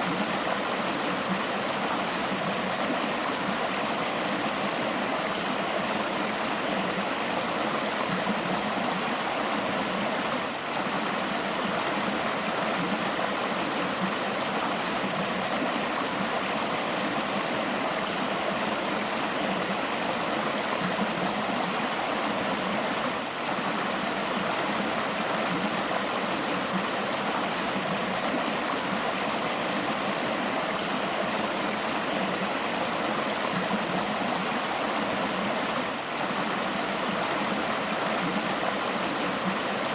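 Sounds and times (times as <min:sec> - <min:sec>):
river water flowing and babbling: 0:00.0 - 0:39.9.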